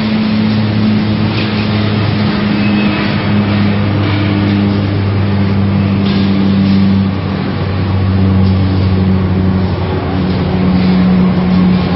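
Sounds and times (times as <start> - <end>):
shredder machine droning: 0.0 - 11.9
wheel loader engine running: 0.0 - 11.9.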